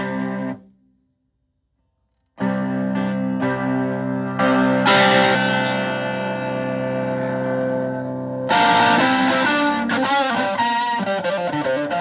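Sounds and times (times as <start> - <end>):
gritty electric guitar chords: 0.0 - 0.6, 2.4 - 12.0.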